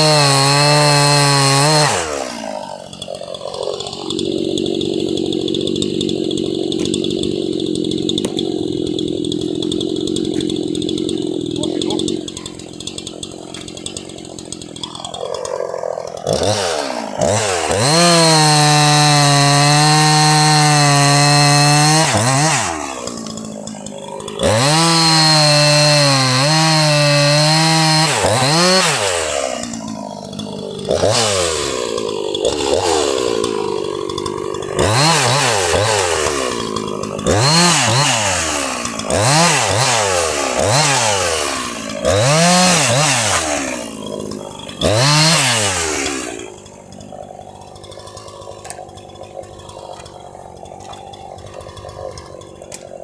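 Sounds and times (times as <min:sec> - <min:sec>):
chainsaw engine idling and revving: 0:00.0 - 0:53.0.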